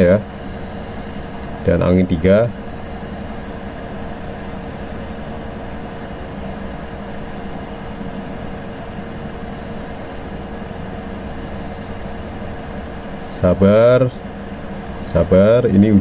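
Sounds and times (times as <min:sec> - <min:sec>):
fan humming: 0:00.0 - 0:16.0
rush of hot air: 0:00.2 - 0:16.0.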